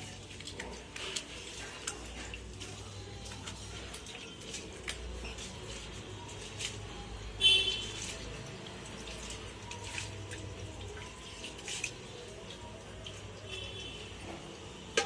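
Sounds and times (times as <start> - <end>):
liquid sloshing: 0.0 - 15.0.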